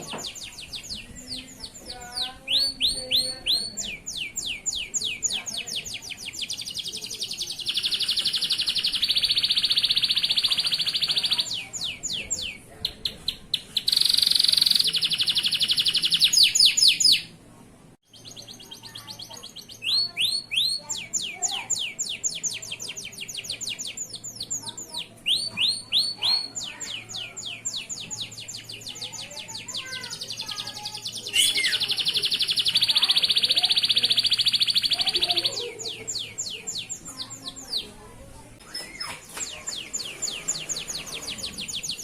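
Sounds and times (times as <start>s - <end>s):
canary singing: 0.0s - 17.4s, 18.1s - 42.0s.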